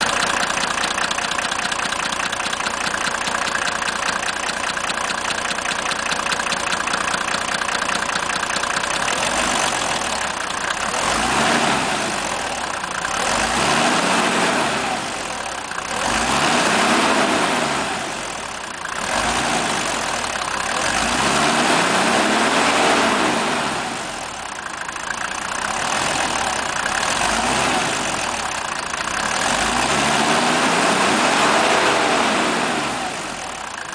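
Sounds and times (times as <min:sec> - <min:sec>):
diesel engine idling: 0:00.0 - 0:33.9
engine revving: 0:00.0 - 0:33.9.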